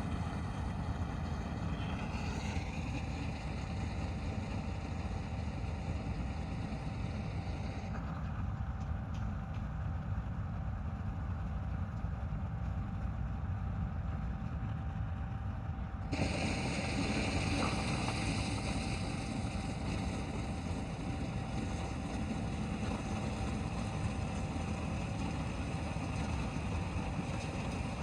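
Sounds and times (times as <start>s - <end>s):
combine harvester engine rumble: 0.0s - 28.0s.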